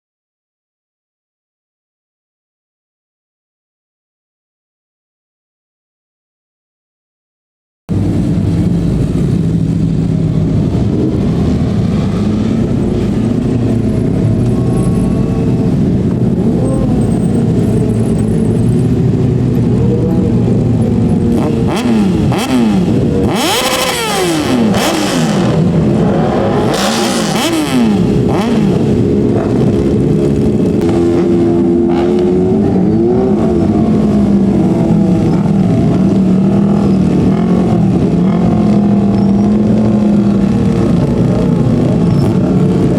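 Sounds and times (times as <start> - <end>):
motorbike engines revving: 7.9 - 42.9
motorbikes passing by: 7.9 - 42.9.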